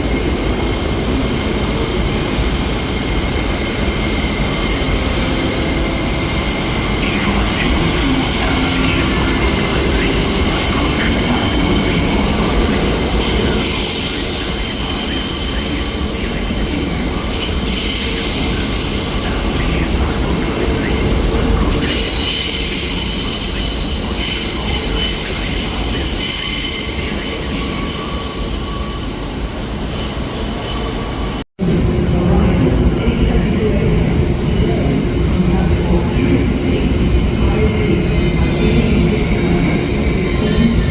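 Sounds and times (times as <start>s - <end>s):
train wheels squealing: 0.0s - 31.5s, 34.1s - 40.9s.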